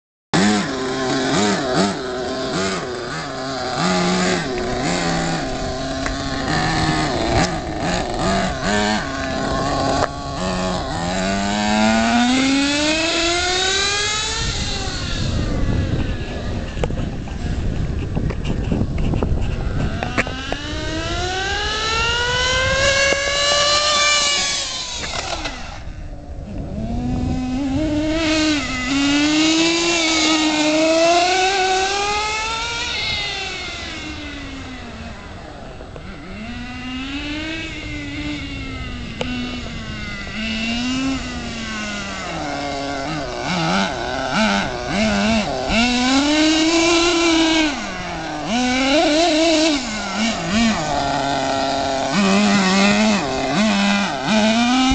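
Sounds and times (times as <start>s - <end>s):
model car nitro engine running: 0.4s - 54.9s.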